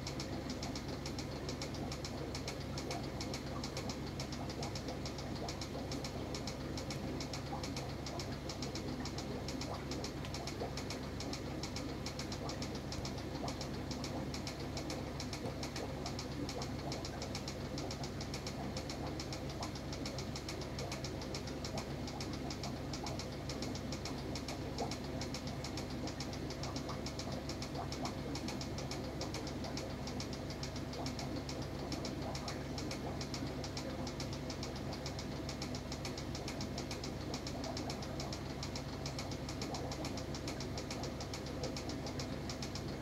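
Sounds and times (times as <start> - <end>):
aquarium equipment humming and rattling: 0.0 - 43.0.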